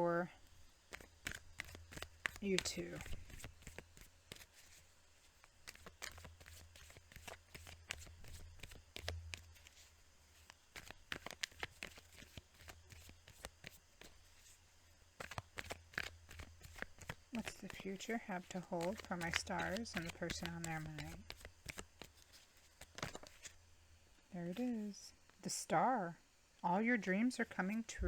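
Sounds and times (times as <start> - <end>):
faint low hum: 0.0 - 28.0
cards being shuffled: 0.6 - 23.6.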